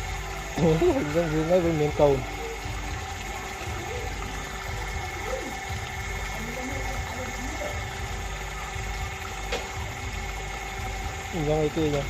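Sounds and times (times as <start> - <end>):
water pump humming: 0.0 - 12.0.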